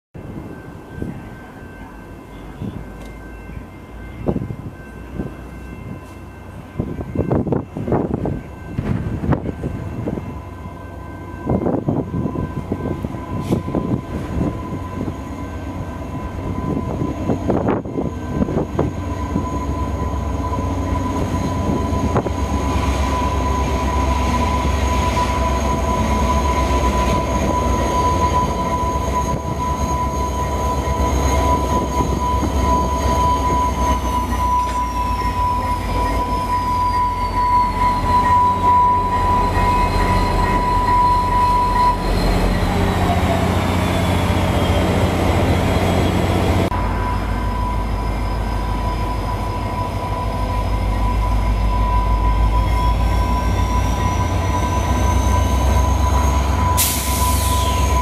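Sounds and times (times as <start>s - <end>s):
diesel locomotive engine drone: 0.2s - 58.0s
steady high tone: 0.2s - 58.0s.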